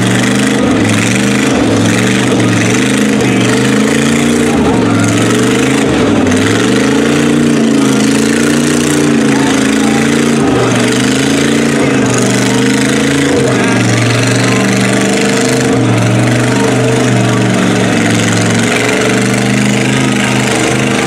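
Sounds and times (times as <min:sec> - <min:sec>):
engine running hard under load: 0:00.0 - 0:21.0
tires churning in mud: 0:00.0 - 0:21.0.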